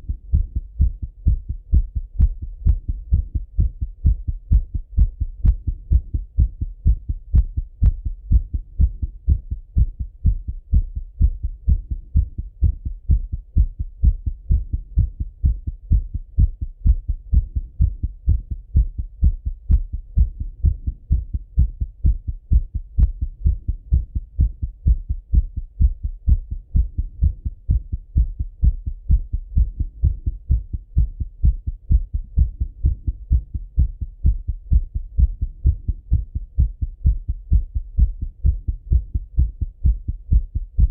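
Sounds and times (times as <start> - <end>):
fast heartbeat through stethoscope: 0.0 - 40.9.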